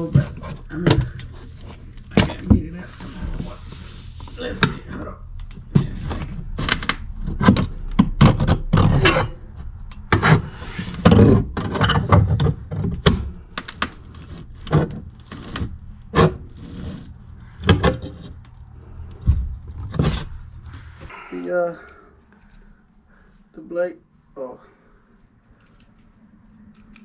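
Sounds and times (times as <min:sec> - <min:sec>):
pipe scraping: 0:00.0 - 0:22.8.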